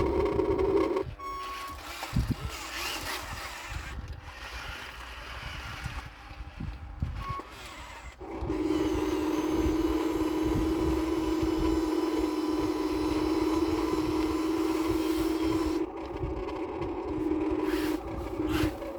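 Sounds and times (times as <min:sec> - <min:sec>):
electric motor whine: 0:00.0 - 0:18.9.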